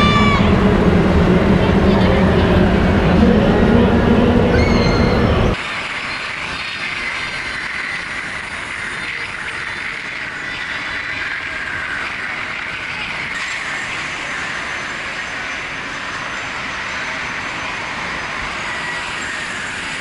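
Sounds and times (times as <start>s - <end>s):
faint high whine: 0.0s - 20.0s
rushing mechanical ride noise: 0.0s - 20.0s.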